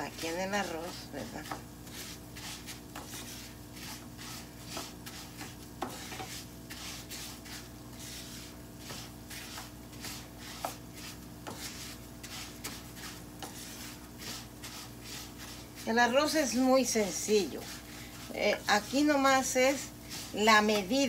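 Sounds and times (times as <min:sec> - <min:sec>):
spoon scraping through rice: 0:00.1 - 0:21.0.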